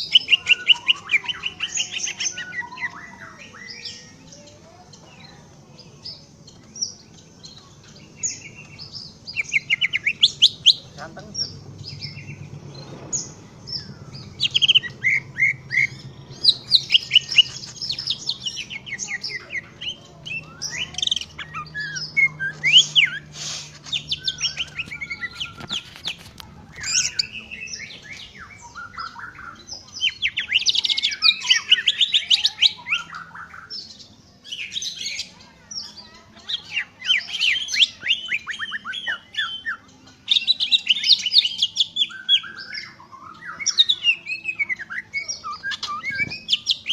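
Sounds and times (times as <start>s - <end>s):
bird chirps trills and whistles: 0.0s - 5.3s, 6.0s - 46.9s.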